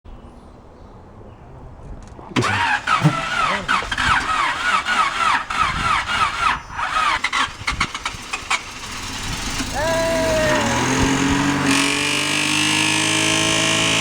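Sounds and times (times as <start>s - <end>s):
starter motor cranking engine: 2.4s - 14.0s.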